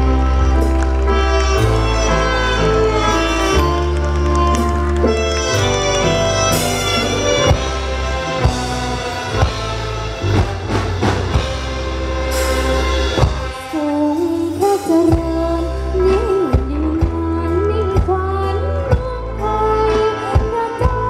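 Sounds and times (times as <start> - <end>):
sliding melody line: 0.0 - 18.6
band over pa system: 0.0 - 21.0.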